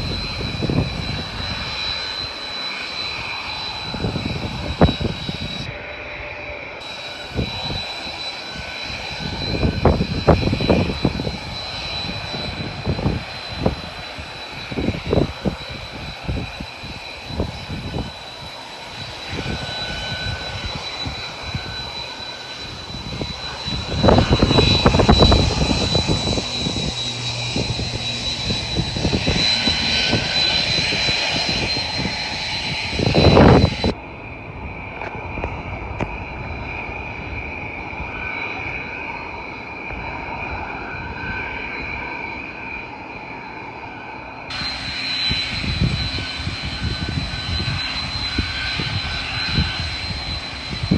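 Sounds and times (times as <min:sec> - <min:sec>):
airliner engines whining: 0:00.0 - 0:50.9.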